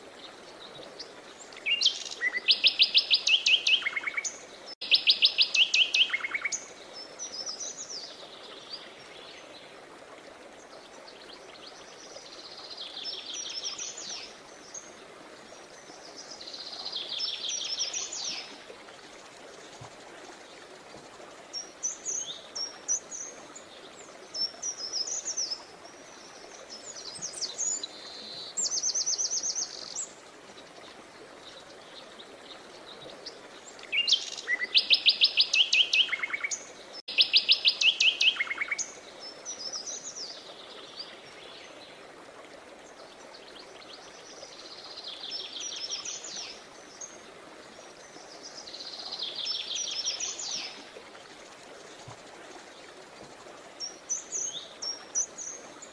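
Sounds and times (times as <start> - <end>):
faint running water: 0.0 - 55.9.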